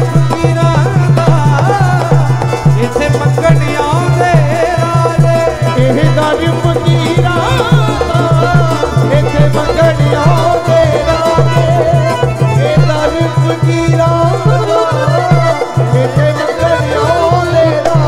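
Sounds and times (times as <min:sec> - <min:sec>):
dholak drum beating: 0:00.0 - 0:18.0
harmonium melody: 0:00.0 - 0:18.0.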